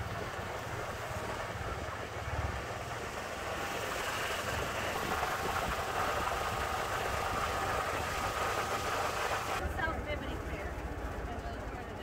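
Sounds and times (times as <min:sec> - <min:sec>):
golf cart motor and road rumble: 0:00.0 - 0:12.0.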